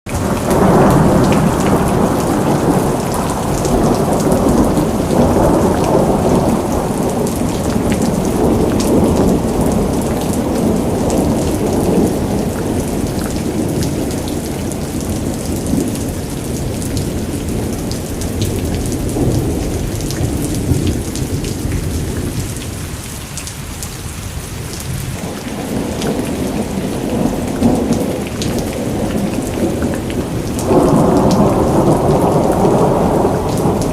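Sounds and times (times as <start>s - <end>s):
rolling thunder: 0.1s - 22.9s, 24.7s - 33.9s
rain drops tapping: 0.1s - 33.9s.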